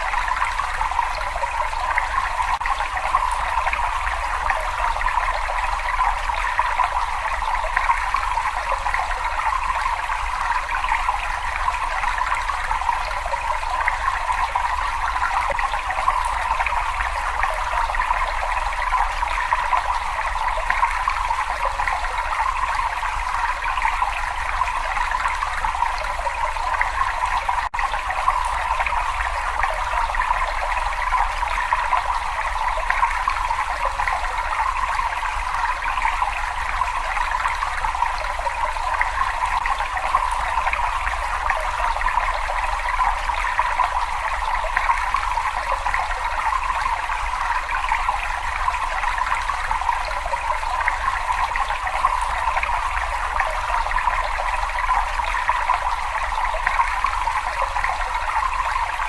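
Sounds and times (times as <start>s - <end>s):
running water trickling: 0.0s - 59.0s.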